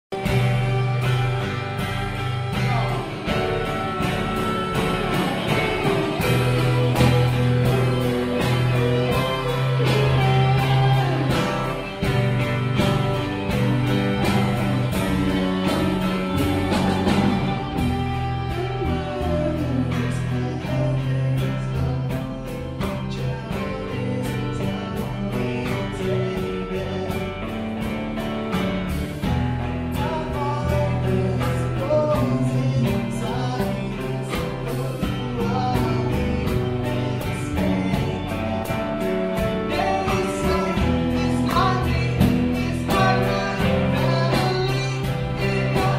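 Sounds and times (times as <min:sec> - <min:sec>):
live rock song: 0:00.1 - 0:45.9.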